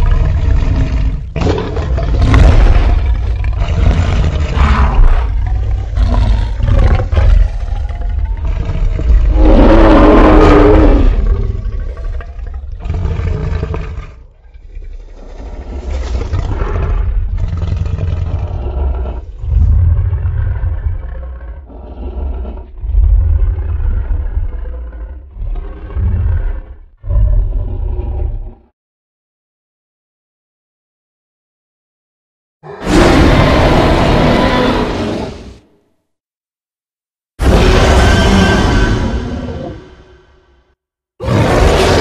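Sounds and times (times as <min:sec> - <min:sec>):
creature roars and growls: 0:00.0 - 0:28.7, 0:32.6 - 0:35.6, 0:37.4 - 0:42.0.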